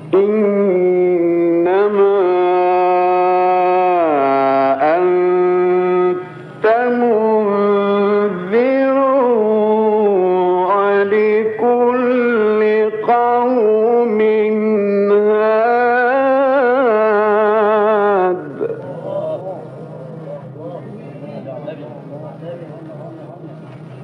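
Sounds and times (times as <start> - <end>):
man chanting melodically: 0.0 - 23.7.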